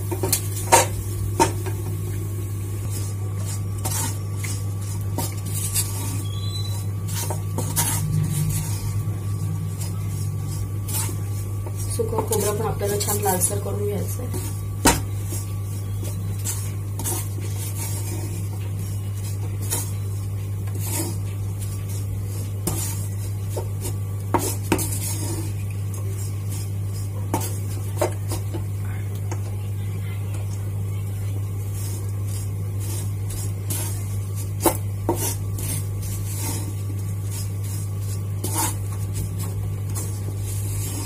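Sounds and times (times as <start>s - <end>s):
steady low hum: 0.0s - 41.0s
spatula scraping coconut in pan: 2.8s - 29.4s, 31.0s - 41.0s.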